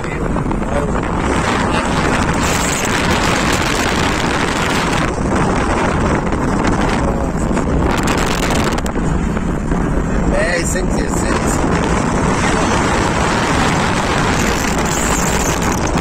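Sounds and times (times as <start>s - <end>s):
road and engine rumble: 0.0s - 16.0s
wind buffeting microphone: 0.0s - 16.0s.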